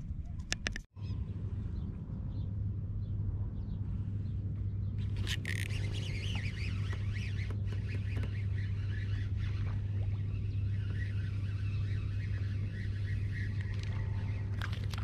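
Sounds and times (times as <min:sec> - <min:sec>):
steady low hum: 0:00.0 - 0:15.0
birds chirping: 0:01.0 - 0:15.0.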